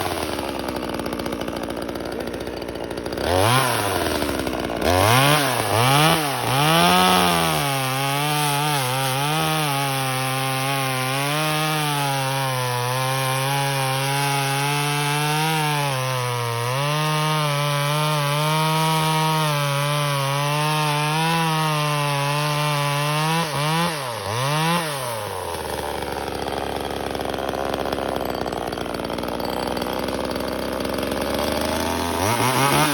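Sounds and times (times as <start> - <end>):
chainsaw revving: 0.0 - 32.9.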